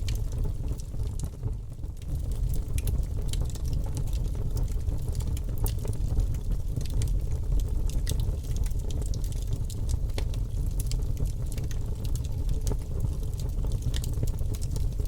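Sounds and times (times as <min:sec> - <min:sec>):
burning wood crackling and popping: 0:00.0 - 0:15.0.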